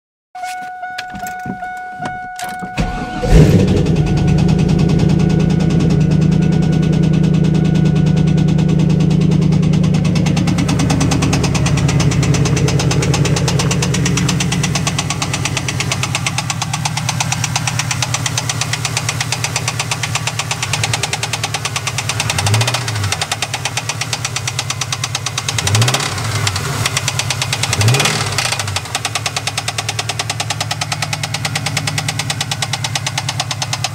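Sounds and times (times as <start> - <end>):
car engine cranking and starting: 0.4 - 33.9
car engine idling with knock: 1.0 - 33.9
engine revving: 2.8 - 33.6.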